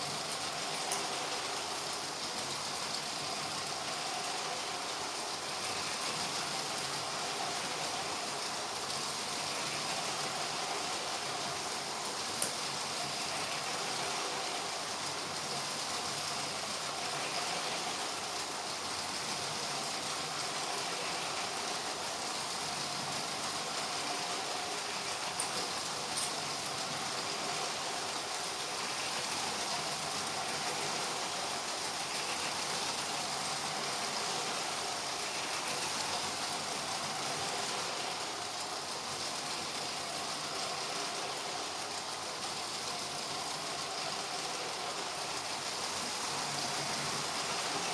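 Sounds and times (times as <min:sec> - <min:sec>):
toy train motors whirring: 0:03.2 - 0:47.9.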